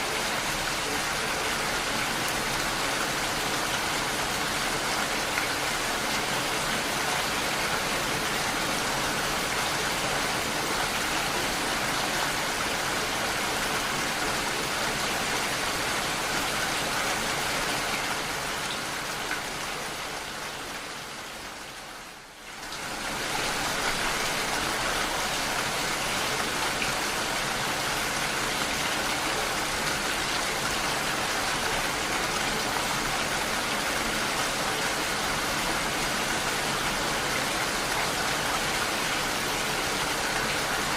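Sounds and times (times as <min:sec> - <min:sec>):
dense rainfall: 0:00.0 - 0:40.9.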